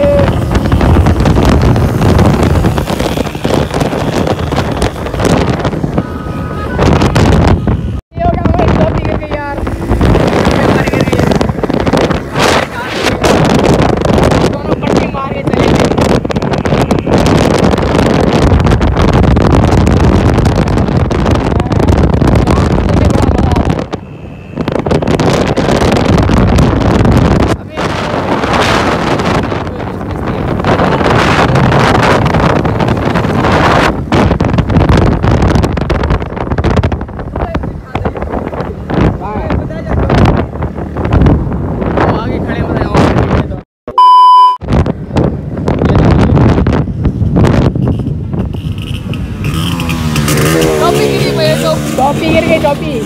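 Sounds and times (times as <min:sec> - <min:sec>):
motorcycle engine: 0:00.0 - 0:39.3, 0:47.0 - 0:53.0
wind buffeting microphone: 0:00.0 - 0:43.6, 0:44.6 - 0:53.0
road noise: 0:00.0 - 0:53.0.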